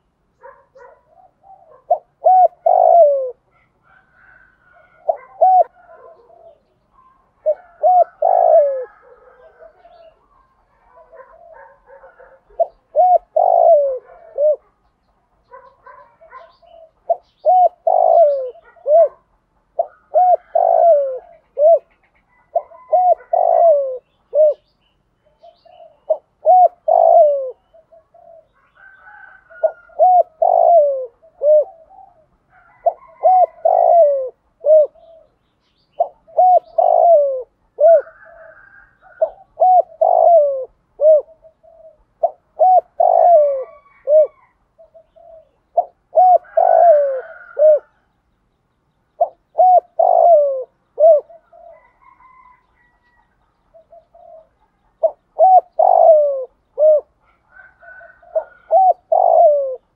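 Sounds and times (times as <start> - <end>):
dove cooing: 0.0 - 48.1, 49.1 - 59.9.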